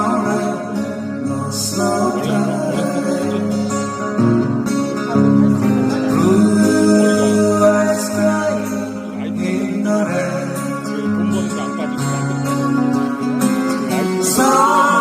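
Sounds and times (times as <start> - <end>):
person singing: 0.0 - 4.1, 5.6 - 15.0
acoustic guitar: 0.0 - 15.0.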